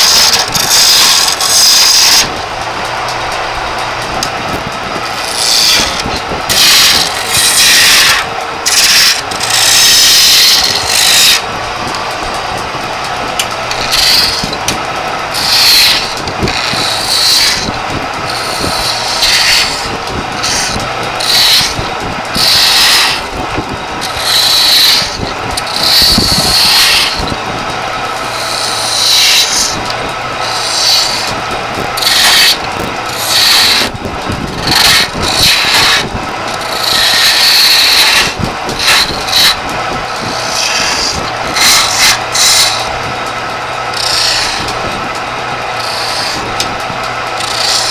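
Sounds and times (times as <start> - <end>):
chisel scraping spinning wood: 0.0 - 47.9
wood lathe humming: 0.0 - 47.9.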